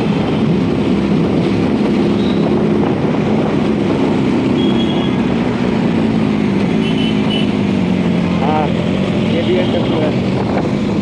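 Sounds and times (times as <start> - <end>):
wind rush on microphone: 0.0 - 6.8, 7.5 - 11.0.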